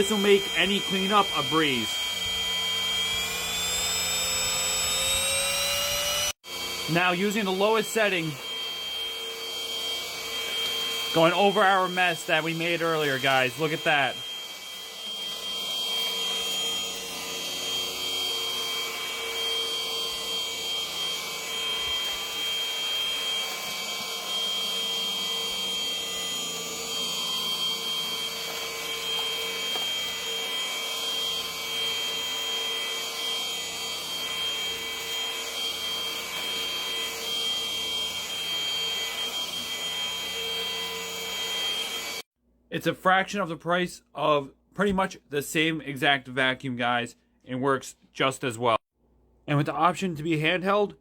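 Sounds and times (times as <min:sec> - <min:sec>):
vacuum motor whine: 0:00.0 - 0:42.3.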